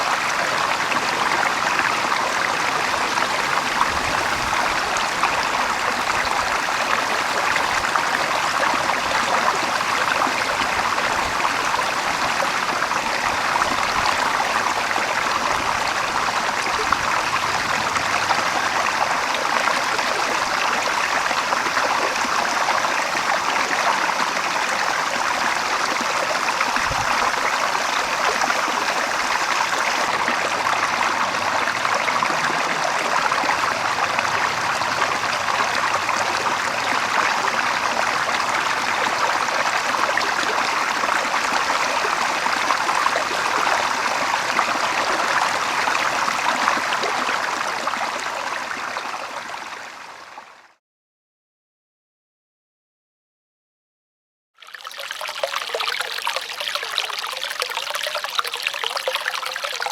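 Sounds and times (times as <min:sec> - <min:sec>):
stream water running: 0:00.0 - 0:50.4, 0:54.6 - 0:59.9.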